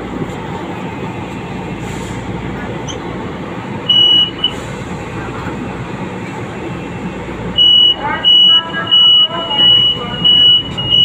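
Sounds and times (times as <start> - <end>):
train car rumble: 0.0 - 11.0.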